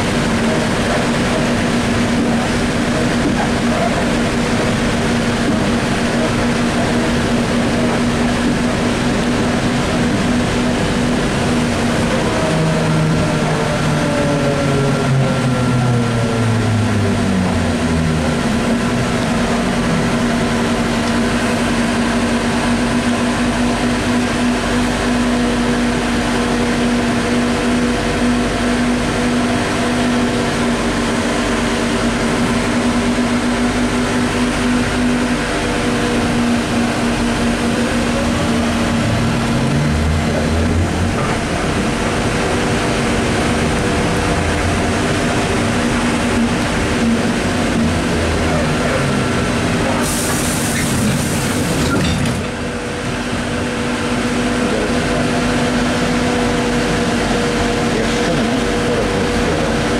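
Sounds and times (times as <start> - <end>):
road noise: 0.0 - 59.9
trolleybus electrical hum: 0.0 - 59.9.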